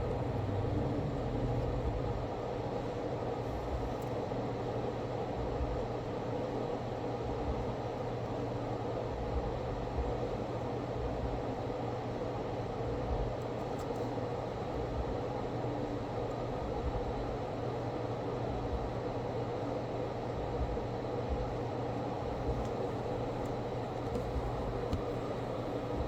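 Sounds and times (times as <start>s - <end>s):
machine hum and hiss: 0.0s - 26.0s.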